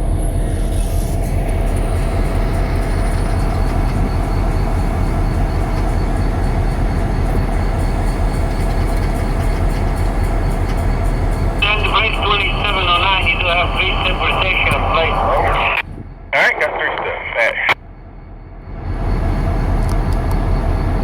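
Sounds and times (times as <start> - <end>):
diesel locomotives idling: 0.0 - 21.0.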